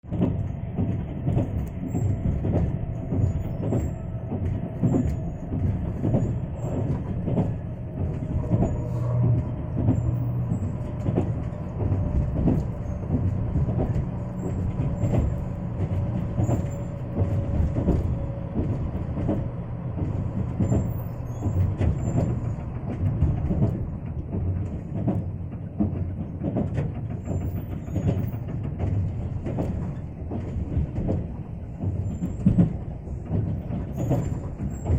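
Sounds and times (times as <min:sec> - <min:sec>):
train rumble: 0:00.0 - 0:34.9
wheels clicking over rails: 0:00.0 - 0:34.9.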